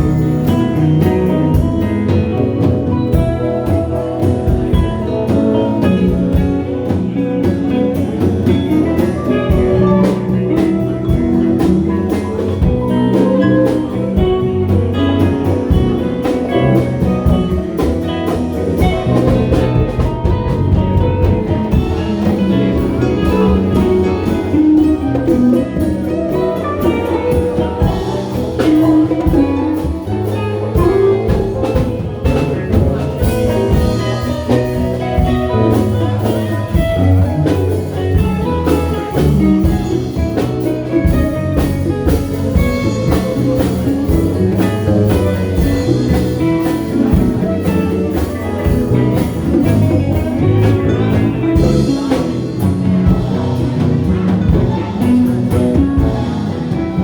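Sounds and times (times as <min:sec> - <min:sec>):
band playing guitar and drums: 0:00.0 - 0:57.0.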